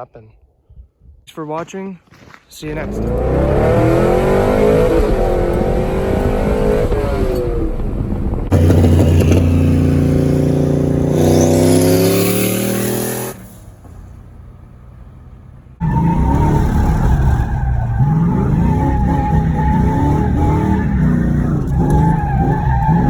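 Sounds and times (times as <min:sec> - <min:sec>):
car engine revving: 0:02.7 - 0:23.0.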